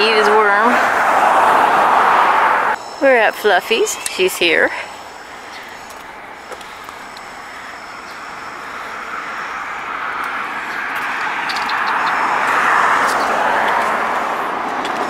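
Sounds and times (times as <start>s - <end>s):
car passing: 0.0s - 3.0s, 3.8s - 15.0s.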